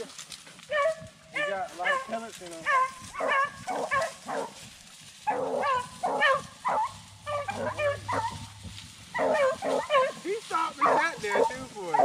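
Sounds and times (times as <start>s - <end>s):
dogs barking and yelping: 0.6s - 4.6s, 5.2s - 12.0s.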